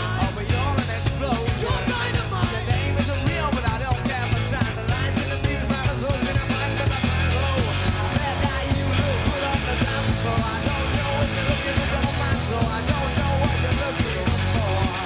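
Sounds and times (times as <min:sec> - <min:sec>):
bass guitar: 0:00.0 - 0:15.0
distorted electric guitars: 0:00.0 - 0:15.0
driving drum beat: 0:00.0 - 0:15.0
man singing lead vocal: 0:00.0 - 0:15.0.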